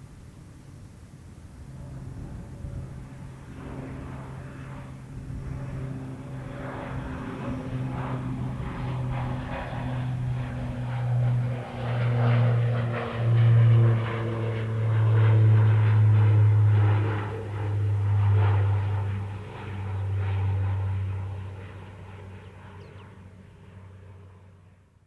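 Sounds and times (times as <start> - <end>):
jet engines rumbling: 0.0 - 24.4.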